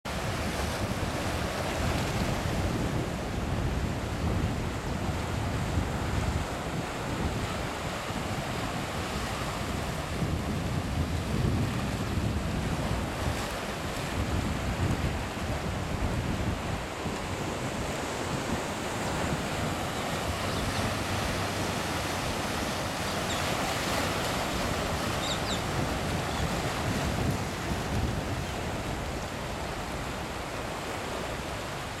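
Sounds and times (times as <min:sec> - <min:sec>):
wind buffeting microphone: 0:00.1 - 0:30.9
surf washing over rocks: 0:00.1 - 0:32.0.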